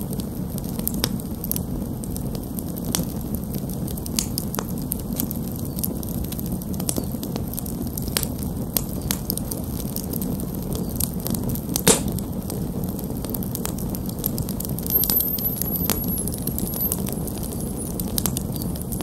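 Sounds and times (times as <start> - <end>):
fire crackling and popping: 0.0 - 19.0
low rush of flame: 0.0 - 19.0.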